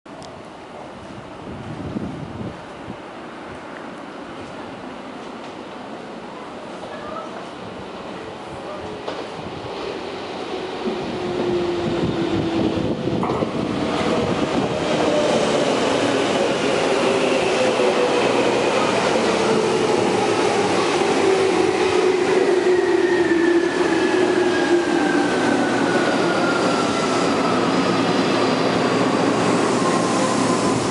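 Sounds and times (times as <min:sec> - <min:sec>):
train wheels rumbling on rails: 0:00.8 - 0:30.9.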